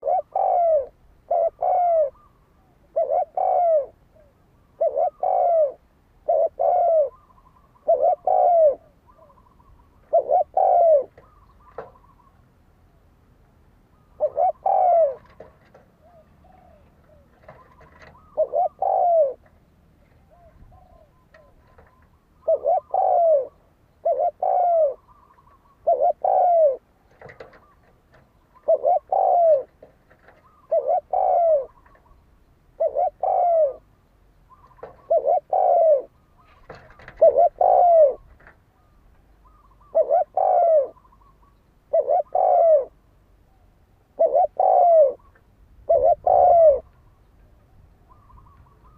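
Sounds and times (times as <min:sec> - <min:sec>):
dove cooing: 0:00.0 - 0:12.5, 0:13.9 - 0:48.9.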